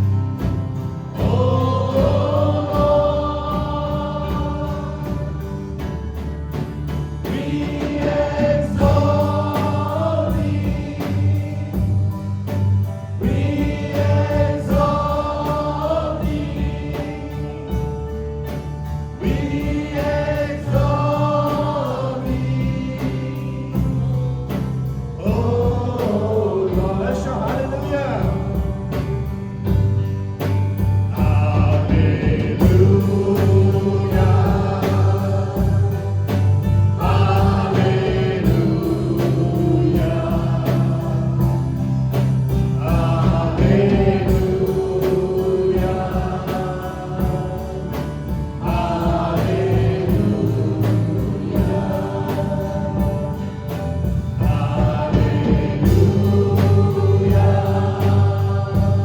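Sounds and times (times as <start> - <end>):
band playing steady beat: 0.0 - 59.0
congregation singing: 0.0 - 59.0.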